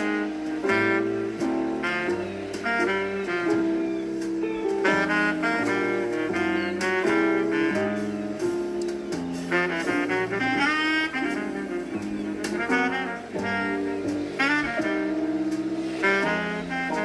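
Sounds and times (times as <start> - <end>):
bass line: 0.0 - 17.0
saxophone melody: 0.0 - 17.0.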